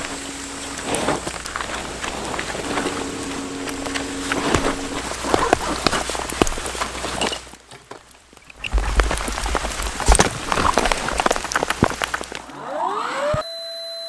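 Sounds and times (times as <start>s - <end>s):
gear rustling and knocks: 0.0s - 12.5s
rain pattering on a jacket: 0.0s - 12.5s.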